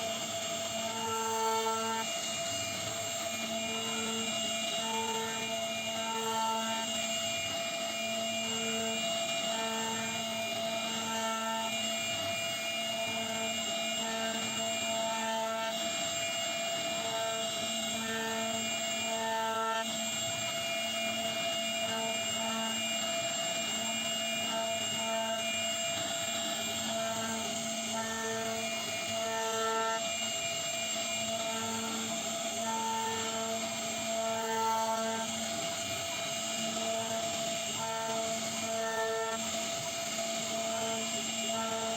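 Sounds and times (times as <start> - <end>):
lower machine whine: 0.0 - 41.9
router spindle high whine: 0.0 - 41.9.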